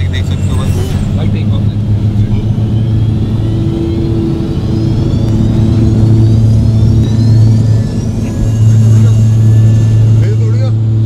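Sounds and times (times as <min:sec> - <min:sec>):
high whine rising in pitch: 0:00.0 - 0:11.0
plane engine drone: 0:00.0 - 0:11.0.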